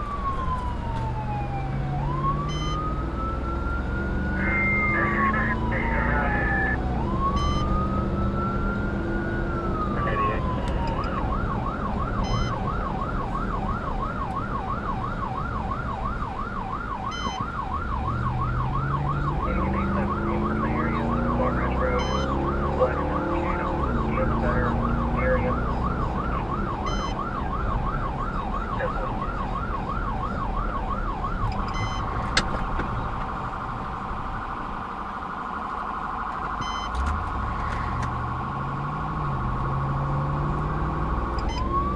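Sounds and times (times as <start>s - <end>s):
fire engine siren: 0.0s - 41.9s.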